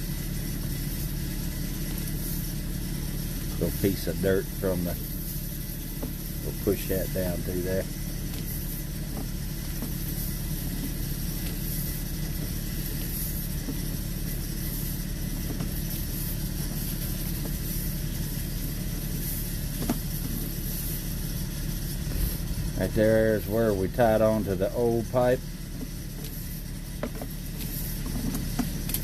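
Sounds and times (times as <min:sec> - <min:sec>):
motor droning: 0:00.0 - 0:29.0.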